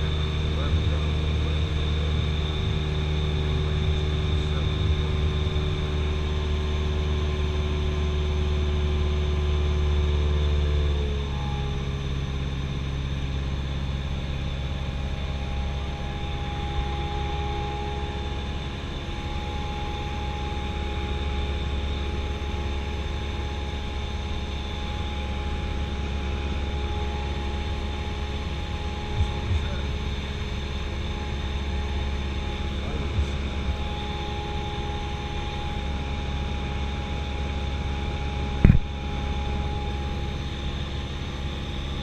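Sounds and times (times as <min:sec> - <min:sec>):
aircraft engine and propeller droning: 0:00.0 - 0:42.0.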